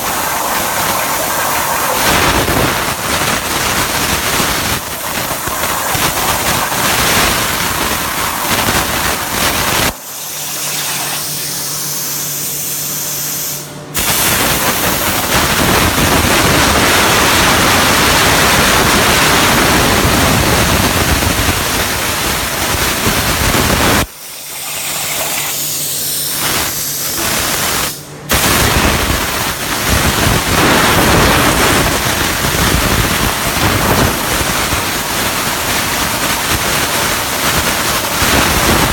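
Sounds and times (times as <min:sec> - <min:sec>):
plasma cutter hissing arc: 0:00.0 - 0:15.3, 0:23.1 - 0:38.9
steady machine hum: 0:00.0 - 0:38.9.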